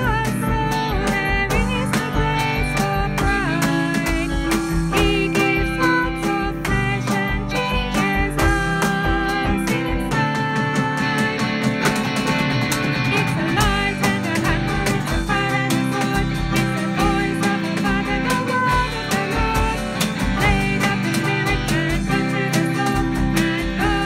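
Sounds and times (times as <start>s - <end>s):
person singing: 0.0s - 12.2s, 12.9s - 24.0s
strummed guitar: 0.0s - 24.0s.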